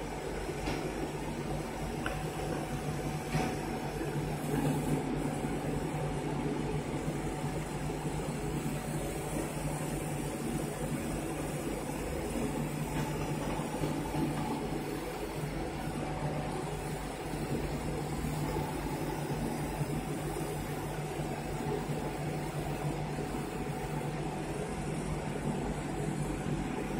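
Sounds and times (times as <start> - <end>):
laser cutter humming: 0.0 - 26.9.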